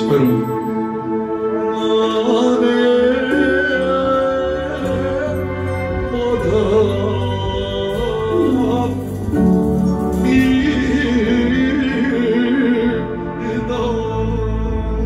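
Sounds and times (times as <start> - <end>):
electronic keyboard accompaniment: 0.0 - 15.0
man singing into a microphone: 1.4 - 15.0.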